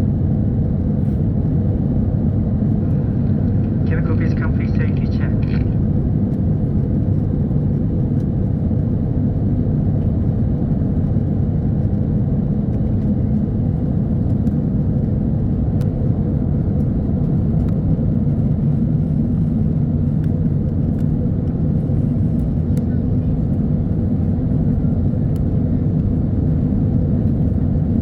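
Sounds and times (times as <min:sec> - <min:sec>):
airliner cabin engine and airflow noise: 0:00.0 - 0:28.0.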